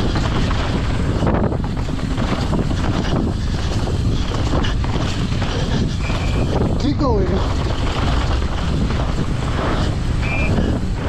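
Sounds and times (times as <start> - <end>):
bike knocks and rattles: 0.0 - 11.0
wind buffeting microphone: 0.0 - 11.0.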